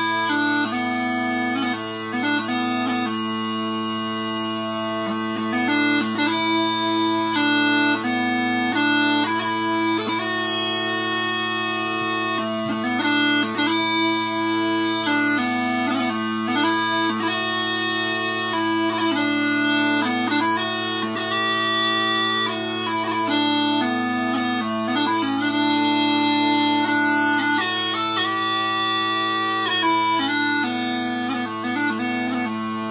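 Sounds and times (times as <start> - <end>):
bagpipe chanter melody: 0.0 - 32.9
steady bagpipe drones: 0.0 - 32.9.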